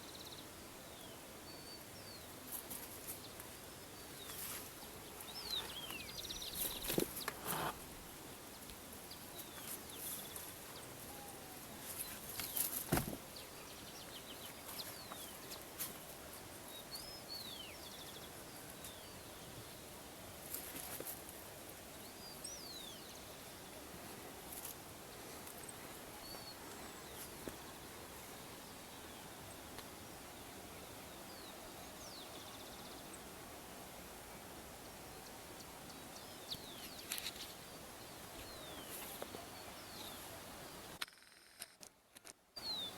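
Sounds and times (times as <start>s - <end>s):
small birds chirping: 0.0s - 7.8s, 8.4s - 33.4s, 35.0s - 41.6s, 42.6s - 42.9s
faint outdoor hiss: 0.0s - 42.9s.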